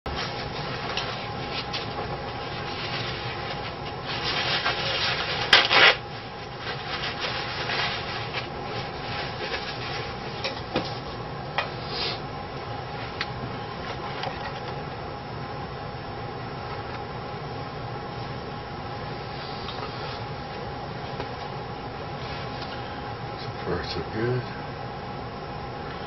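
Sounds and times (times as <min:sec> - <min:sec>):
faint room hum: 0:00.1 - 0:26.0.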